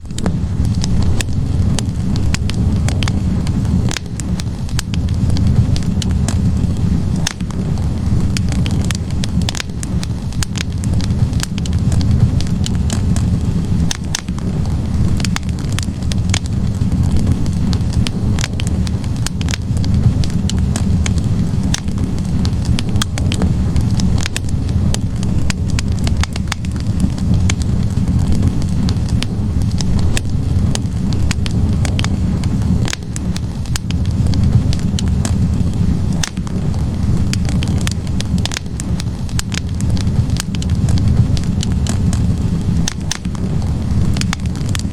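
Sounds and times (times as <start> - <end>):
fire flames rumbling: 0.0 - 44.9
logs crackling and popping: 0.0 - 44.9.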